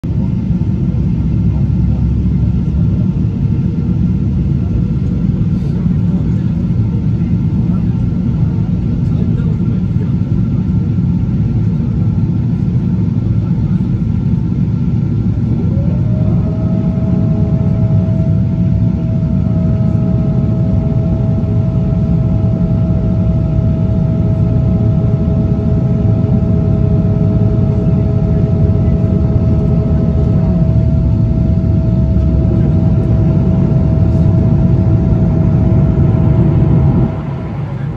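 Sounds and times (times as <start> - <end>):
aircraft cabin engine roar: 0.0 - 37.9
engine whine: 0.0 - 37.9.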